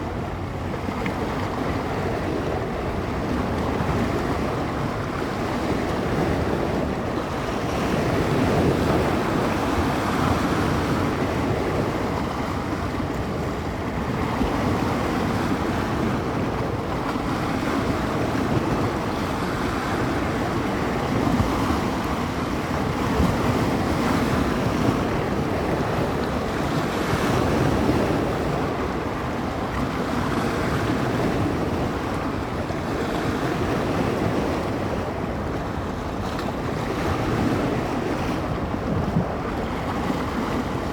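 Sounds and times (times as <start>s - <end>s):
waves washing along shore: 0.0s - 40.9s
wind gusting on microphone: 0.0s - 40.9s.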